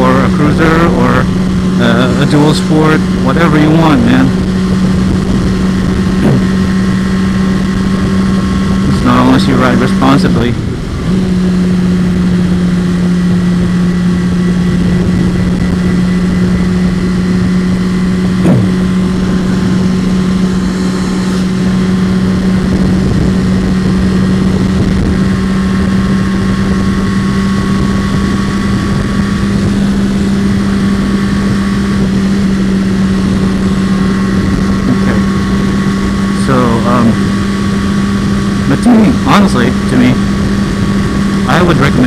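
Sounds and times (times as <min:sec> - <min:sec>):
motorcycle engine cruising: 0:00.0 - 0:42.0
wind rushing over microphone: 0:00.0 - 0:42.0.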